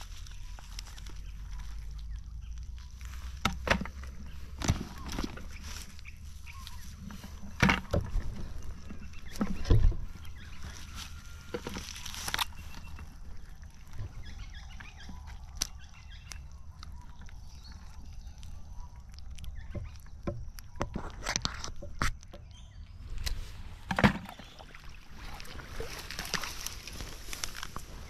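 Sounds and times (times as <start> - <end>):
crayfish net crinkling: 0.0 - 21.9, 23.1 - 28.0
dry grass rustling: 0.0 - 21.9, 23.0 - 28.0.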